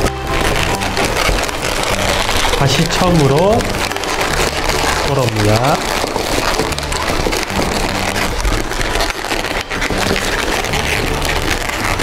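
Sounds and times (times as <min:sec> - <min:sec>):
background music low notes: 0:00.0 - 0:12.0
balloons squeaking and rubbing: 0:00.0 - 0:12.0.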